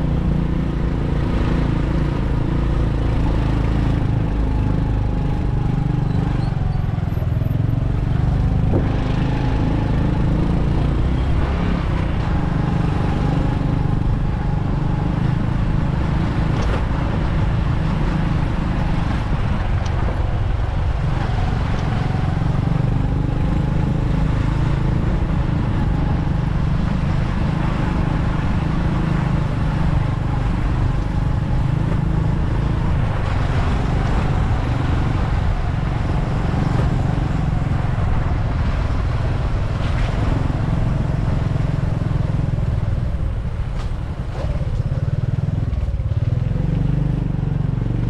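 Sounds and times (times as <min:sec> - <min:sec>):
wind rumble on microphone: 0:00.0 - 0:48.0.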